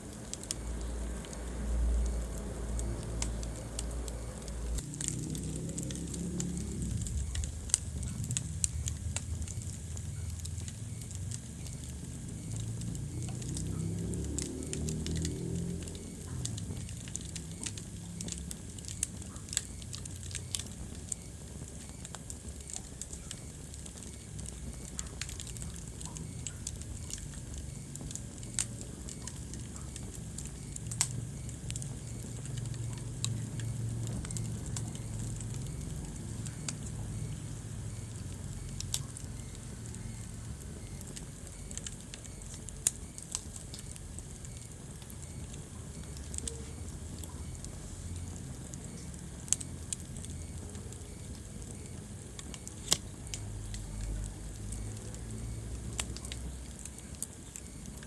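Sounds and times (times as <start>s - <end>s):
low rumble of flames: 0.0s - 58.0s
sharp pops of burning wood: 0.0s - 58.0s
wood fire crackling: 0.0s - 58.0s.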